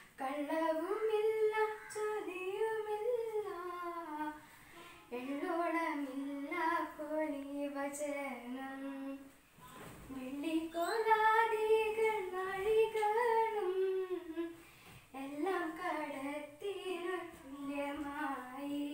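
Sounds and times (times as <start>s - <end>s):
woman singing unaccompanied: 0.0s - 9.4s, 10.0s - 18.9s.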